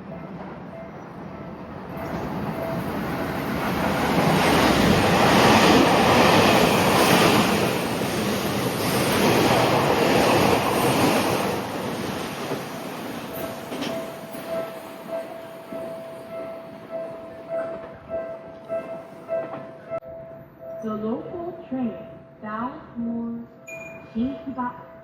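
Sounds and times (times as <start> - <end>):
electric train passing at speed: 0.0 - 21.2.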